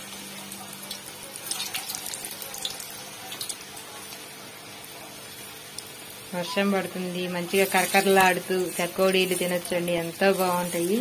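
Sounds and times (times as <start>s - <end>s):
oil bubbling and sizzling: 0.0s - 11.0s.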